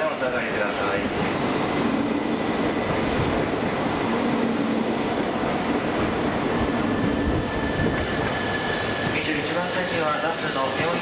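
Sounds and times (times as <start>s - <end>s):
train wheels rolling rumble: 0.9s - 11.0s.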